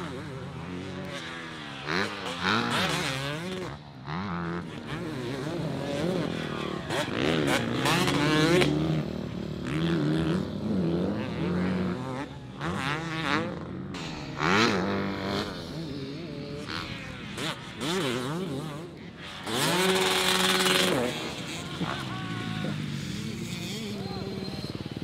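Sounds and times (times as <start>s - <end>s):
motocross engine revving: 0.0s - 25.0s.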